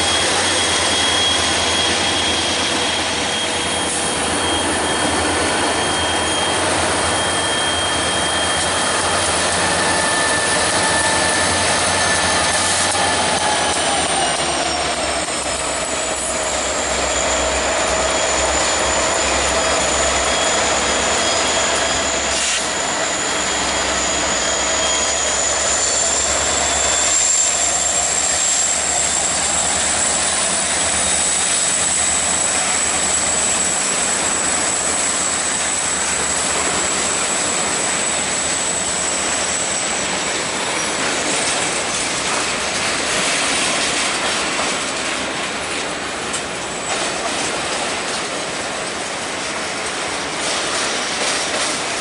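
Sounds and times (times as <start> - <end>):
high wheel squeal: 0.0 - 44.9
freight train rumbling past: 0.0 - 52.0.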